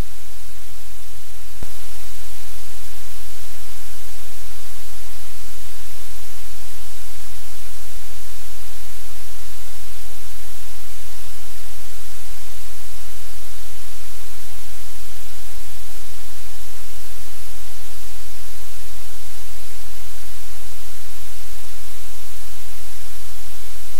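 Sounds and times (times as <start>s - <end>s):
low electrical hum: 0.0s - 23.9s
static hiss: 0.0s - 23.9s.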